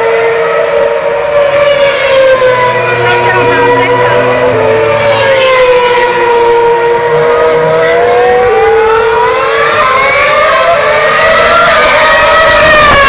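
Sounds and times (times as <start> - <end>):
racing car engines whining: 0.0 - 13.0.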